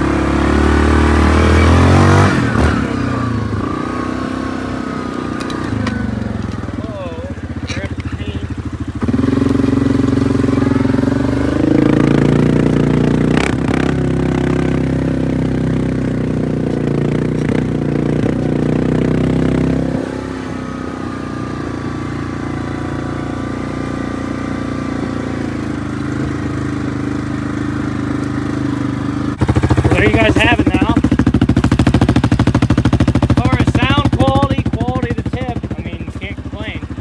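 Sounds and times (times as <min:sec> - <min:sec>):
atv engine revving and idling: 0:00.0 - 0:37.0.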